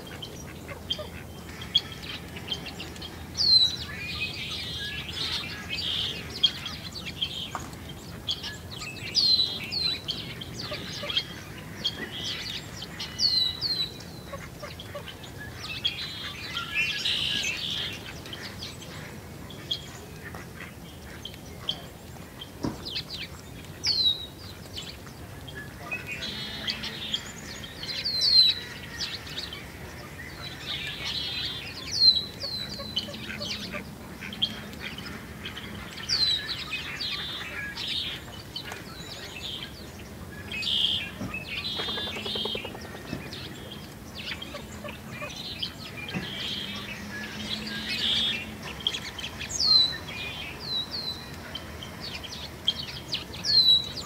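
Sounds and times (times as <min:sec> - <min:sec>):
songbirds calling: 0:00.0 - 0:54.0.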